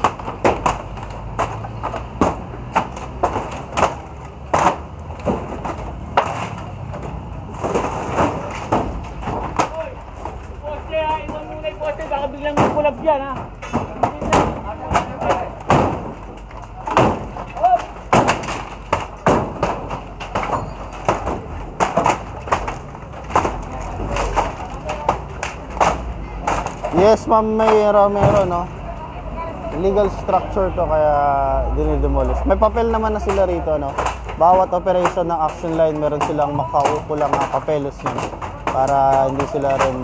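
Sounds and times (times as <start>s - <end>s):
hammer blows on wooden boards: 0.0s - 28.7s, 32.9s - 40.0s
banging on corrugated metal: 0.0s - 28.8s, 32.8s - 40.0s.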